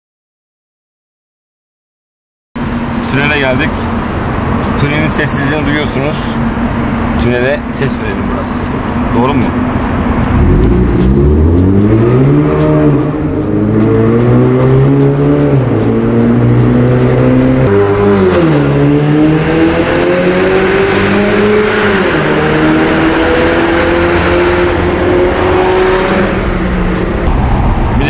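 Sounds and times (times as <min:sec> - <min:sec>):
car engine accelerating hard: 0:02.6 - 0:28.0.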